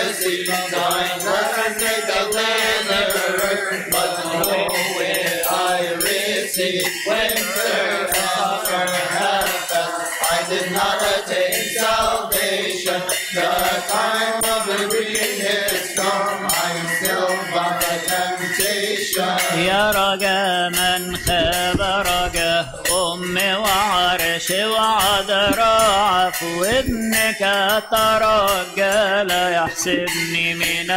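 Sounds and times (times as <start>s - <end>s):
hand cymbals striking a beat: 0.0s - 30.9s
voices chanting a hymn: 0.0s - 30.9s.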